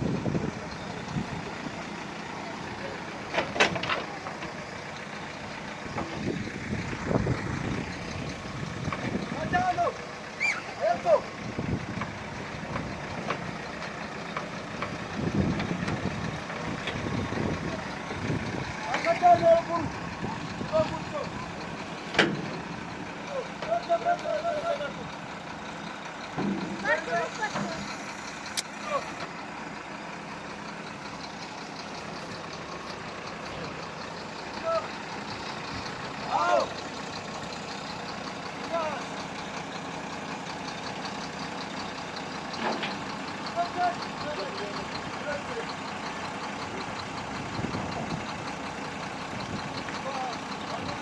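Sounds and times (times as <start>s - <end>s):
diesel machinery engine rumbling: 0.0s - 51.0s.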